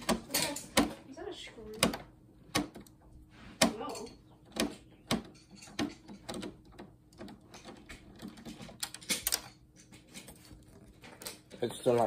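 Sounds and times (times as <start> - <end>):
hand tools clicking on monitor parts: 0.0 - 1.0, 1.6 - 3.0, 3.6 - 11.7.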